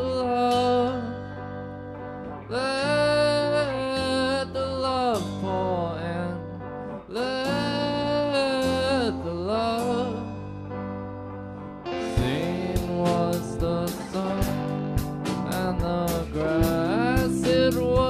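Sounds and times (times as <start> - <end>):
rock band playing live: 0.0 - 18.0
sliding held guitar notes: 0.0 - 18.0.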